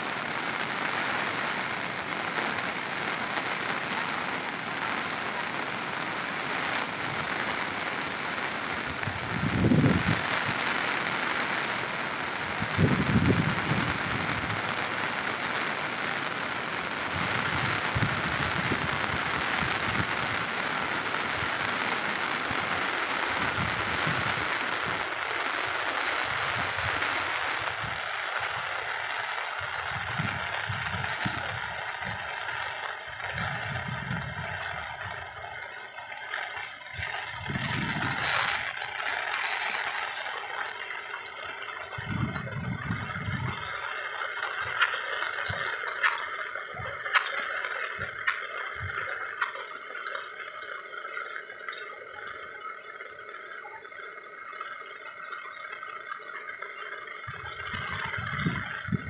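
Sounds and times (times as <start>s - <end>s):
floodwater rushing in stream: 0.0s - 59.0s.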